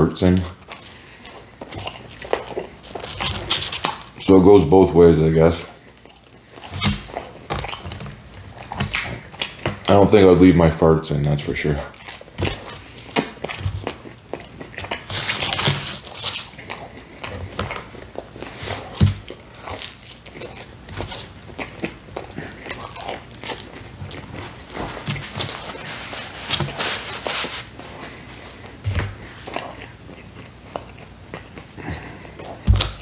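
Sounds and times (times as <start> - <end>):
chewing with wet mouth clicks: 0.4 - 4.2, 5.5 - 9.9, 11.9 - 25.8, 28.0 - 33.0.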